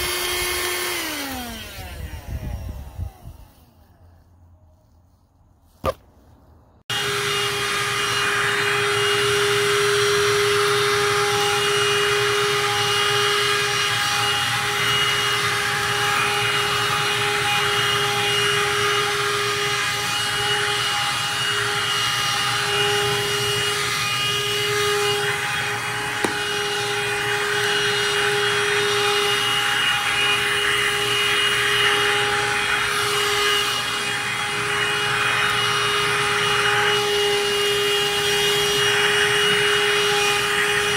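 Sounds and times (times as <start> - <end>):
handheld vacuum running: 0.0 - 3.8, 6.9 - 40.9.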